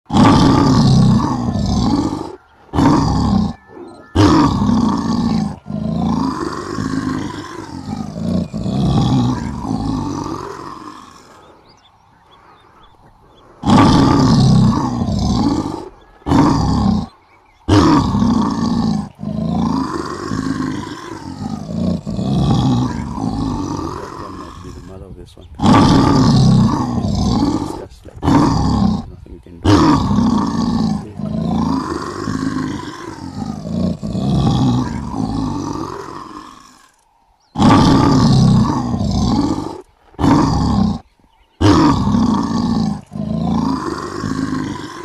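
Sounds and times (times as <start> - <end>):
lion roaring and growling: 0.1 - 45.0.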